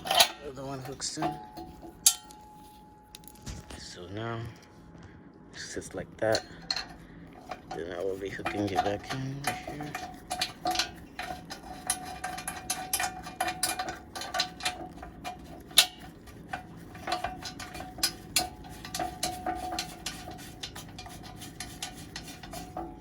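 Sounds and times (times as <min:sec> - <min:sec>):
metallic clinks of car parts and tools: 0:00.0 - 0:04.8, 0:06.2 - 0:23.0.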